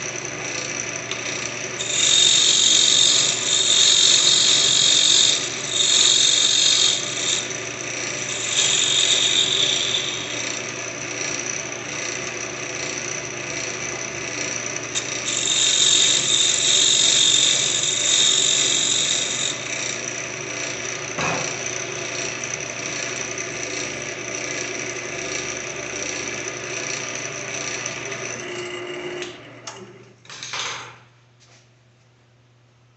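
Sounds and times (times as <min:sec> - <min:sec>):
turning tool cutting wood: 0:00.0 - 0:29.8
wood lathe motor hum: 0:00.0 - 0:30.1.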